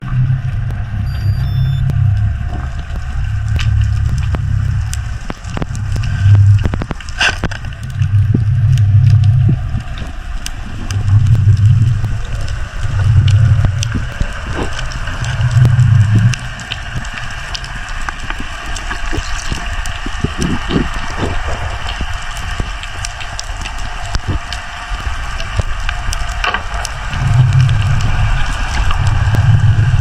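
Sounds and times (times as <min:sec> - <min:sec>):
deep underwater rumble: 0:00.0 - 0:30.0
sharp clicks and crackles: 0:00.0 - 0:30.0.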